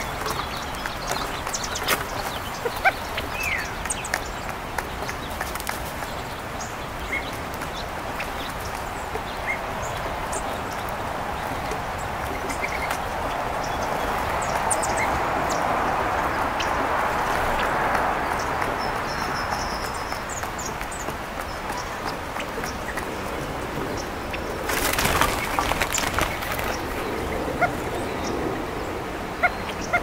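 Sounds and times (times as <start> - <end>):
steady rushing background: 0.0 - 29.4.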